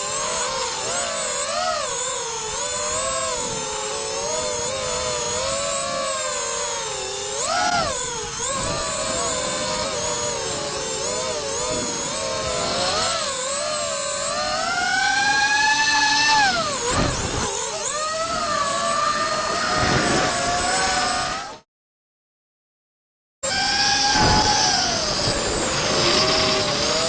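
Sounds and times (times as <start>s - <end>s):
drone motors and propellers whining: 0.0s - 21.7s, 23.4s - 27.0s.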